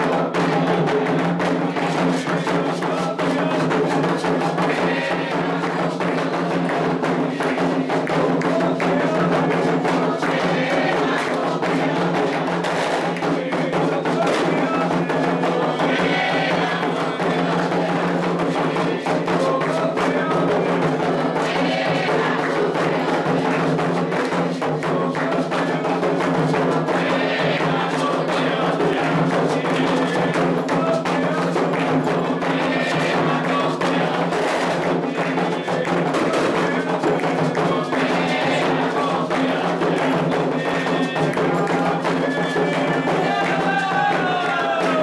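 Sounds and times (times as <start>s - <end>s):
hand drums beating: 0.0s - 45.0s
voices chanting: 0.0s - 45.0s.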